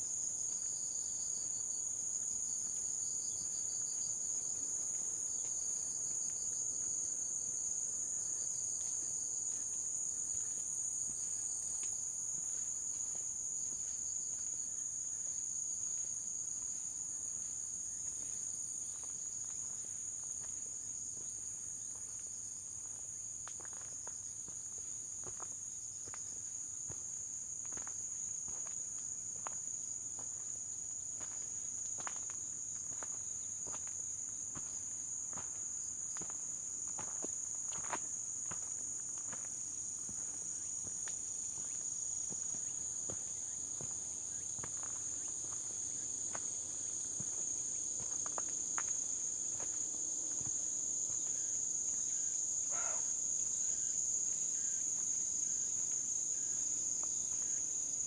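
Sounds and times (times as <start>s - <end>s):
high-pitched insect chorus: 0.1s - 58.0s
faint footsteps on path: 0.4s - 58.0s.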